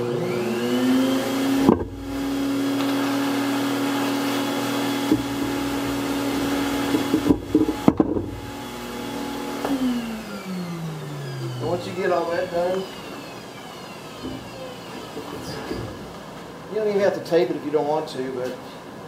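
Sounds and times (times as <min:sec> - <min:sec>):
shop vacuum running: 0:00.0 - 0:17.2.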